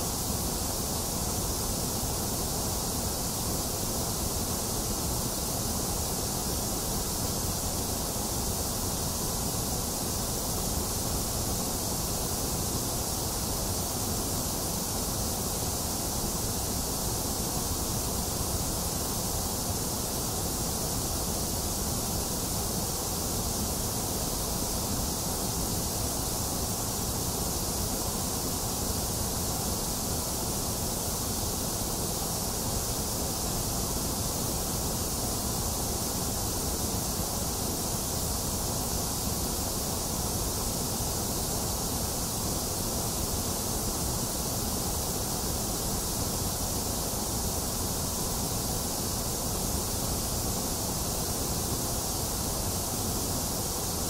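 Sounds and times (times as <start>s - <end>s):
steady white noise: 0.0s - 54.0s.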